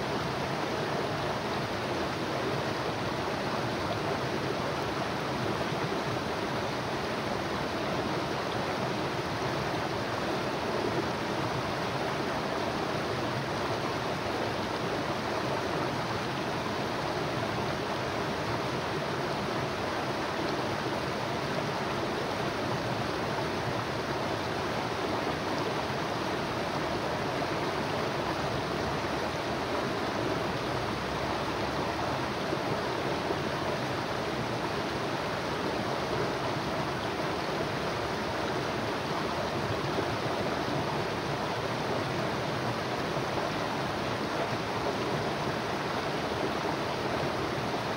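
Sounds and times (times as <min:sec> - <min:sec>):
river water flowing: 0:00.0 - 0:47.9.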